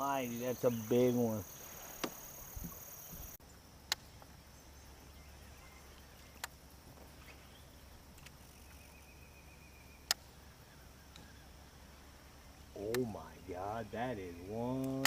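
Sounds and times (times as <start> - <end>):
faint insects buzzing: 0.0 - 15.0.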